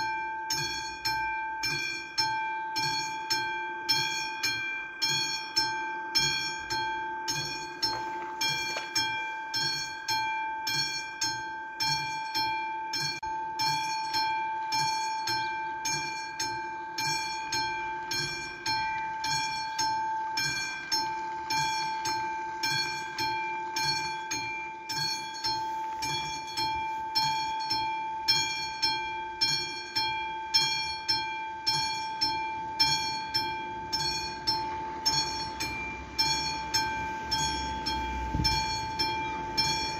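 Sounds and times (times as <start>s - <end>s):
level crossing warning bell ringing: 0.0s - 39.9s.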